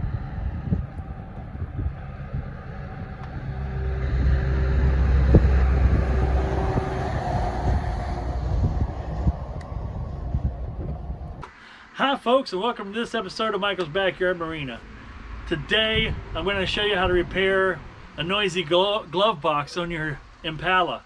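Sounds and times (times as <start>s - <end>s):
engine rumbling: 0.0s - 11.6s, 12.7s - 20.8s.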